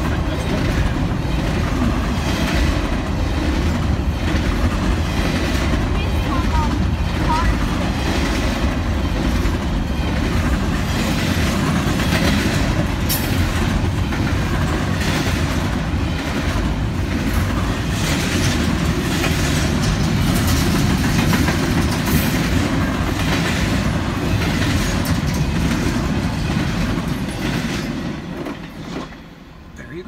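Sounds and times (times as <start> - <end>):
wheels clacking over rail joints: 0.0 - 29.3
freight train passing: 0.0 - 30.0.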